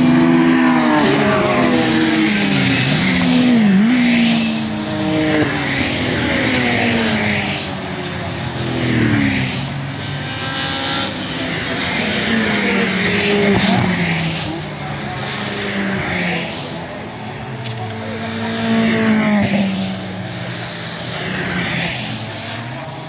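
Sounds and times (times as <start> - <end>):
racing cars passing at speed: 0.0 - 23.0.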